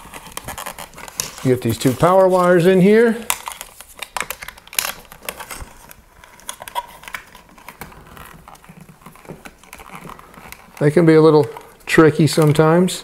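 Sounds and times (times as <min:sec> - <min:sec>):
cables rustling: 0:00.0 - 0:13.0.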